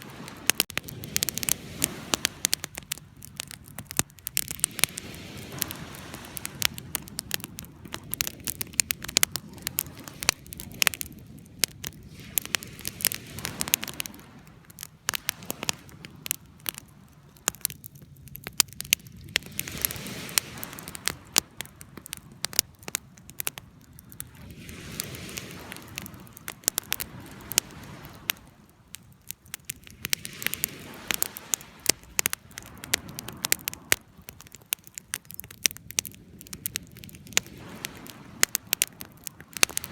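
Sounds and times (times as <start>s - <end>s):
campfire crackling and popping: 0.0s - 39.9s
soft rushing of fire: 0.0s - 39.9s.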